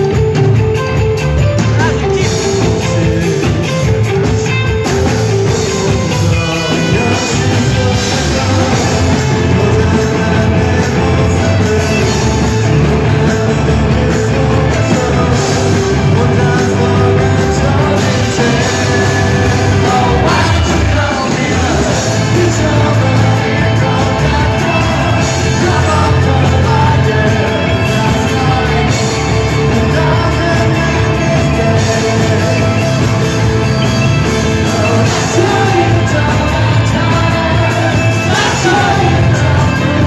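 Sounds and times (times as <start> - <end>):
man singing: 0.0 - 40.0
rock band playing live: 0.0 - 40.0.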